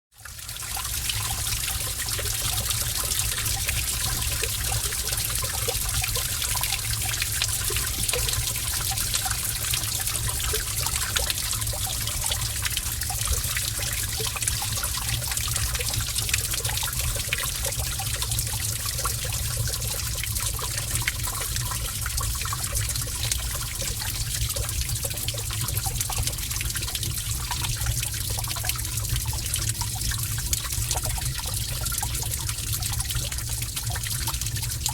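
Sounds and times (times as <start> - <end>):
water drips and splashes: 0.2 - 34.9
water trickling: 0.2 - 34.9.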